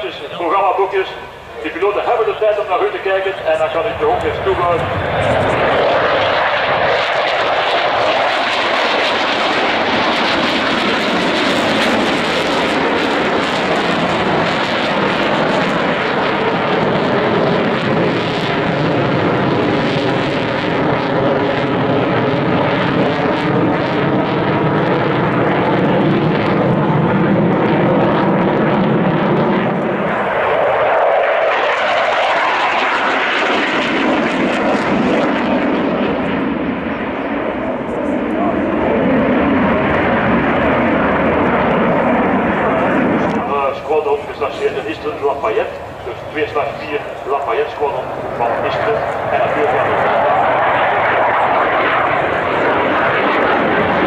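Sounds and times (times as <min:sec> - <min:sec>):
jet engine roaring flyby: 0:00.0 - 0:54.0.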